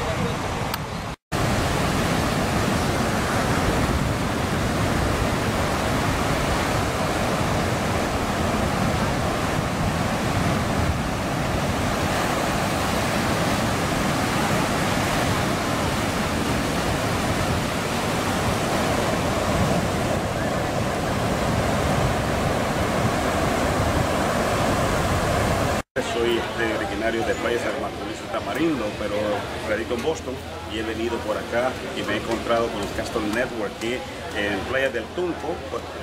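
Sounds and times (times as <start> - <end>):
ocean surf washing onto beach: 0.0 - 36.0.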